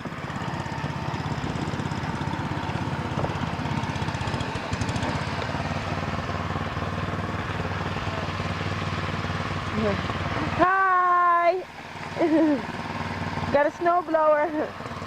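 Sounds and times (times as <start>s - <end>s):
snow blower engine chugging: 0.0s - 15.0s.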